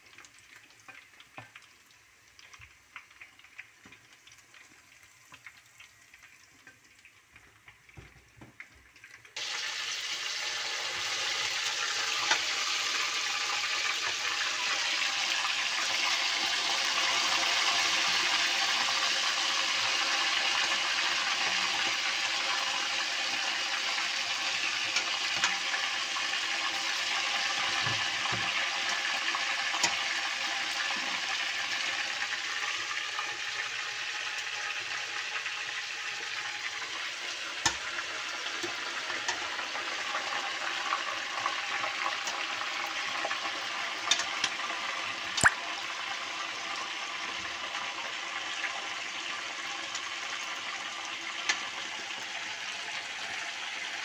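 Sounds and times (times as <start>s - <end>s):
meat sizzling in hot oil: 0.0s - 54.0s.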